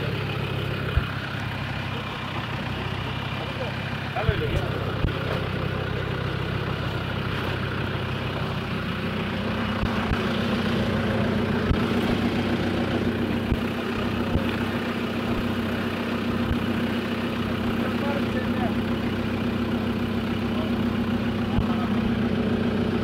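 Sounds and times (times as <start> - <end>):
engine running at low revs: 0.0 - 23.0.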